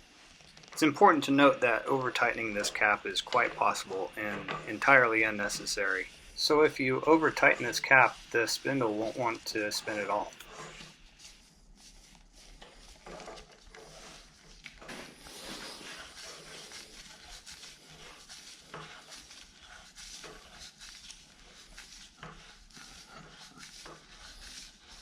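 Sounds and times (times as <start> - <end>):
rubbing and scraping on metal: 0.1 - 25.0.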